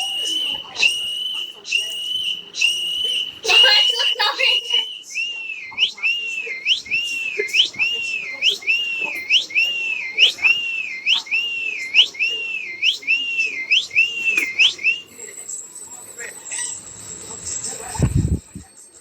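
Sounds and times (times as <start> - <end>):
squeaky electronic chirp: 0.0 - 19.0.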